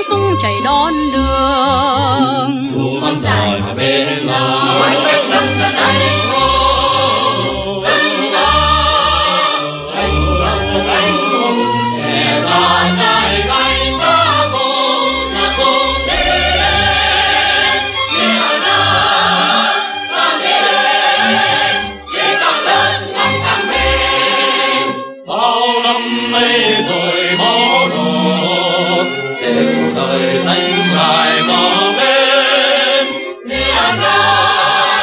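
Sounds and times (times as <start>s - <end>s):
choir singing: 1.7s - 35.0s.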